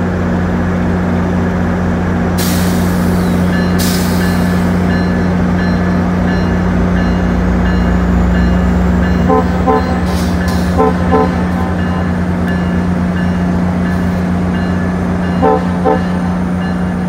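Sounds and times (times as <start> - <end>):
diesel locomotive droning: 0.0 - 17.0.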